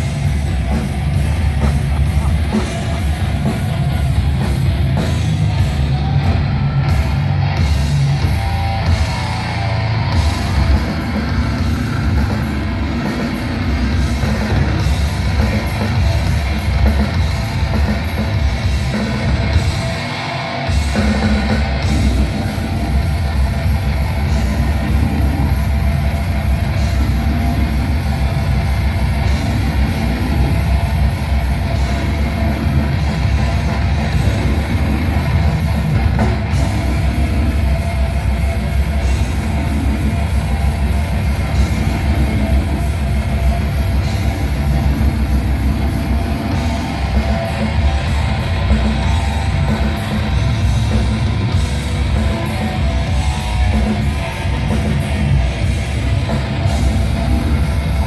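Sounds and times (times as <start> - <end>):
death metal band playing: 0.0 - 58.0.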